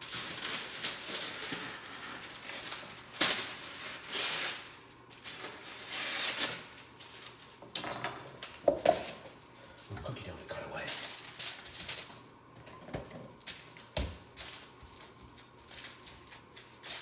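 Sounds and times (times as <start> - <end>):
kitchen wrap crinkling: 0.0 - 17.0.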